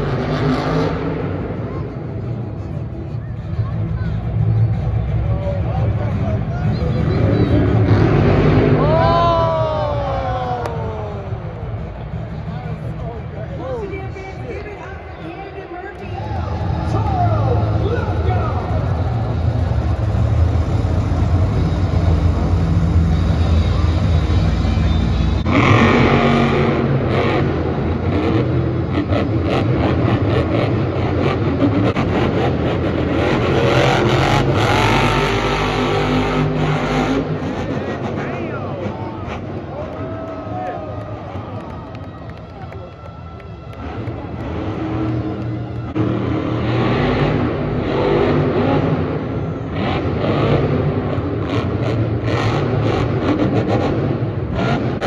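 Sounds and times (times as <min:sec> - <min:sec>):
monster truck engine revving: 0:00.0 - 0:14.7, 0:16.0 - 0:42.5, 0:43.5 - 0:55.0.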